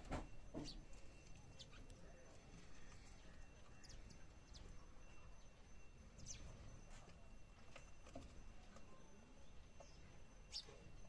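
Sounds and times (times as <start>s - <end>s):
sparrows chirping: 0.0s - 11.0s.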